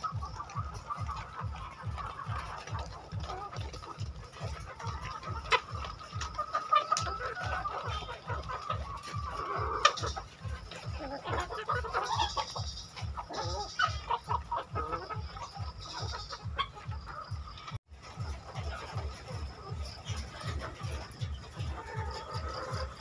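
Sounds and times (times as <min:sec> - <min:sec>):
hens clucking and squawking: 0:00.0 - 0:23.0.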